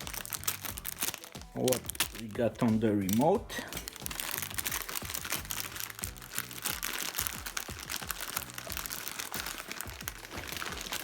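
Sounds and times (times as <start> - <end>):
background music: 0.0 - 11.0
plastic packaging crinkling: 0.0 - 11.0.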